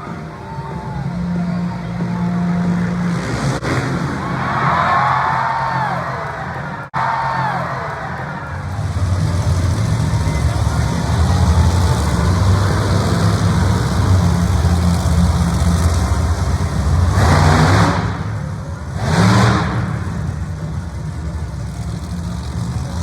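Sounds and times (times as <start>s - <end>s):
loud vehicle engines running: 0.0s - 23.0s.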